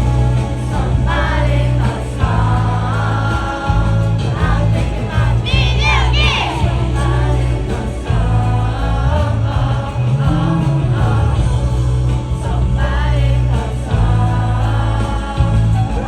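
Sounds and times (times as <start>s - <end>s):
heavy bass beat: 0.0s - 16.0s
person singing: 0.0s - 16.0s.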